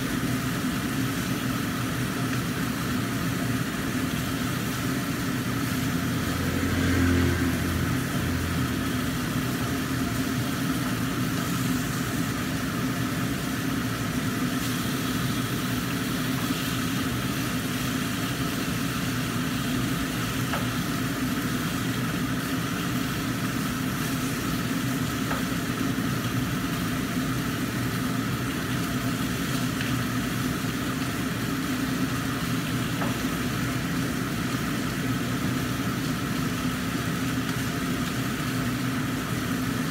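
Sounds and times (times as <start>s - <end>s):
fish sizzling in oil: 0.0s - 39.9s
steady mechanical hum: 0.0s - 39.9s.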